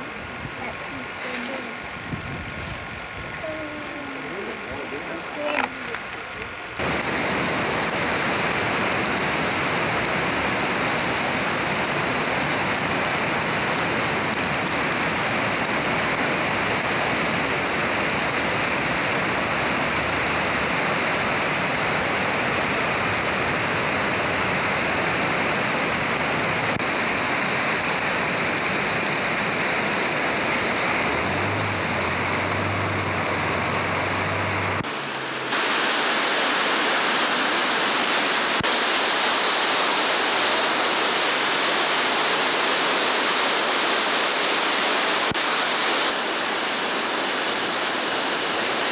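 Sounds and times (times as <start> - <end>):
rushing river water: 0.0 - 48.9.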